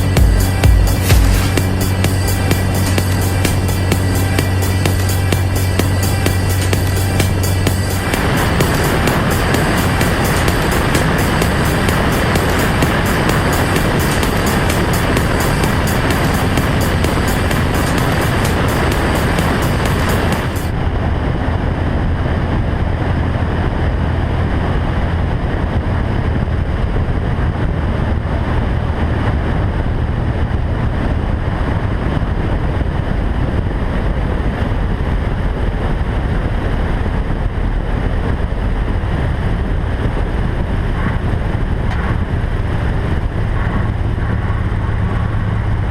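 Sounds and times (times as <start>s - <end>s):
propeller plane engine drone: 0.0s - 45.9s
rushing air noise: 0.0s - 45.9s.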